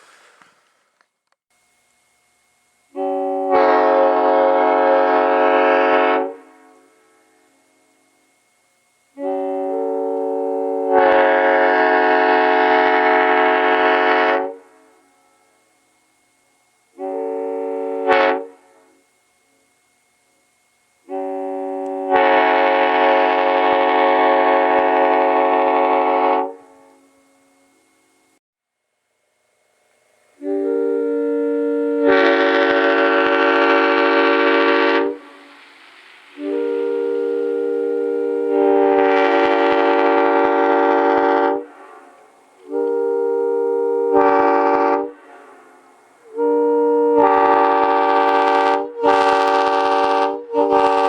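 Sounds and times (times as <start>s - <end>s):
train air horn chord blast: 2.9s - 8.1s, 9.1s - 15.8s, 16.9s - 19.1s, 21.0s - 28.4s, 30.2s - 51.0s.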